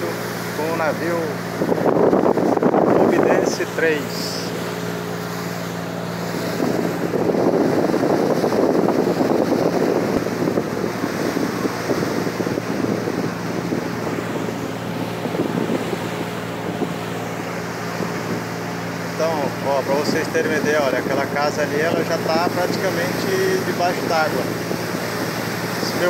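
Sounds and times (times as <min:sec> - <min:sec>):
boat engine droning: 0:00.0 - 0:26.0
water along boat hull: 0:00.0 - 0:26.0
wind on microphone: 0:00.0 - 0:26.0.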